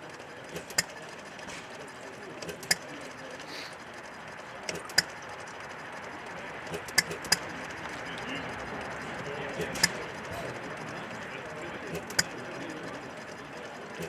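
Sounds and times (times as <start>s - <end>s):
stationary engine metallic clicks: 0.0s - 14.0s.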